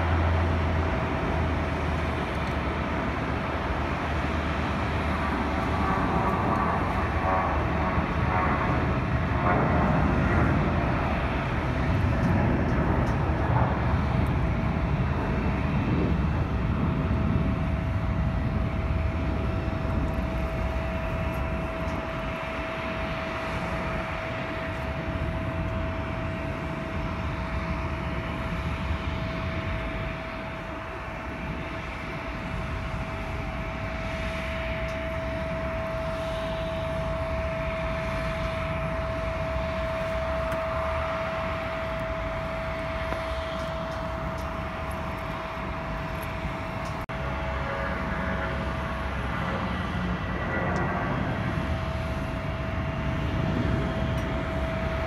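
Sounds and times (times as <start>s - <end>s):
jet engines running: 0.0s - 55.0s
whining engine tone: 0.0s - 55.0s.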